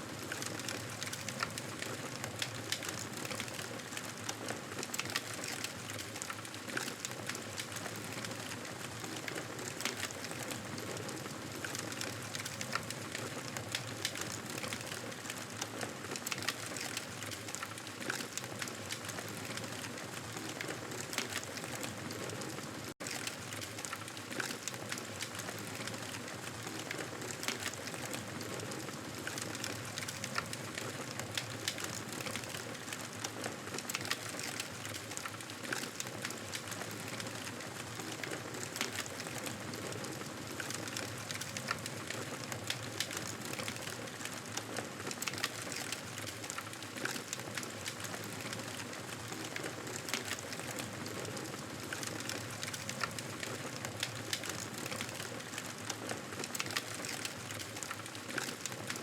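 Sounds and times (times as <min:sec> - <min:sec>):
campfire crackling: 0:00.2 - 0:59.0.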